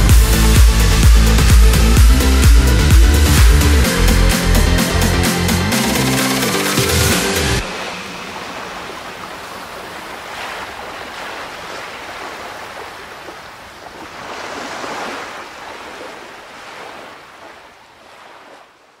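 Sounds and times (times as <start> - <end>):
sea waves washing in: 0.5 - 19.0.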